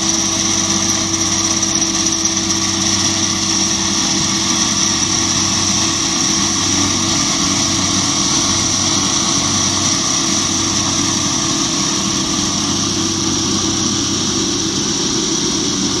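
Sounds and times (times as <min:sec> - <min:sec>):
concrete scarifier drone: 0:00.0 - 0:16.0
high steady machine whine: 0:00.0 - 0:16.0.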